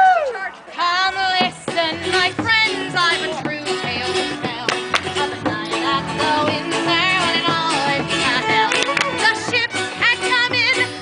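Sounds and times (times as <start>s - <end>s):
people singing a tavern song: 0.8s - 11.0s
instrumental accompaniment: 1.1s - 11.0s.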